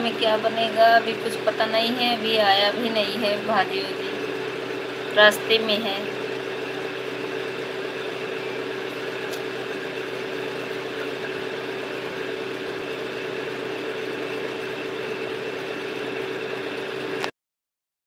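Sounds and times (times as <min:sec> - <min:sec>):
steady mechanical hum: 0:00.0 - 0:17.3.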